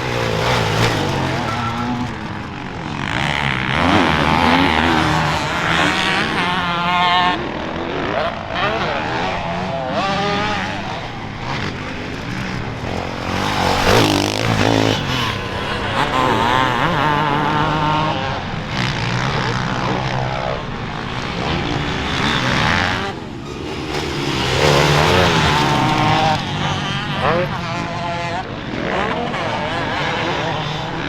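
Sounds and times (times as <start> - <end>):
motocross engines revving: 0.0 - 31.0.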